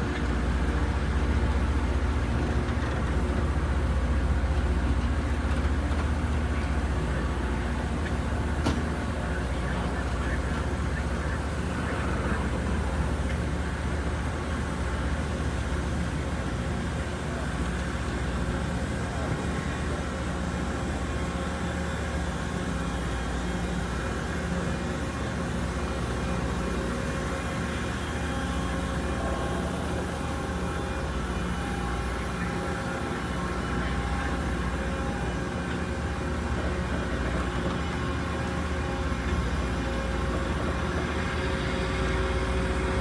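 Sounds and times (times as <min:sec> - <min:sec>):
rail grinder machine drone: 0:00.0 - 0:43.0.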